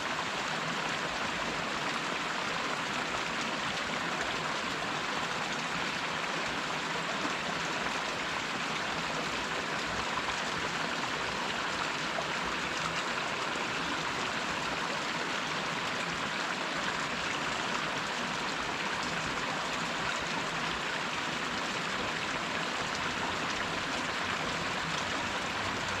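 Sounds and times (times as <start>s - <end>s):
small waterfall rushing: 0.0s - 26.0s.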